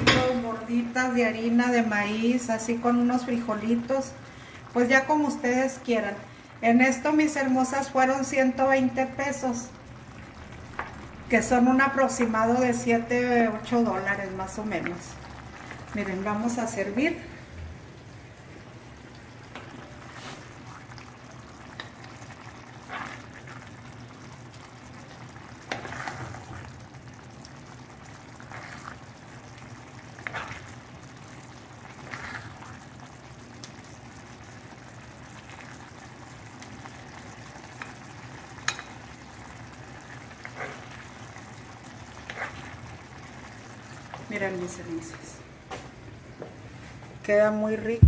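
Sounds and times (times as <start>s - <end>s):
stew bubbling in a pan: 0.0s - 48.0s.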